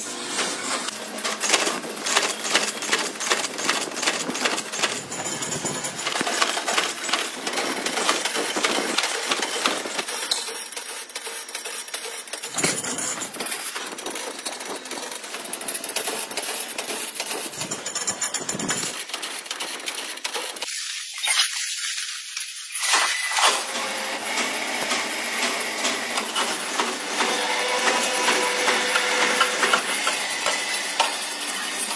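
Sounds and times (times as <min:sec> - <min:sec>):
factory machinery rattling and clicking: 0:00.0 - 0:20.9, 0:22.0 - 0:31.9.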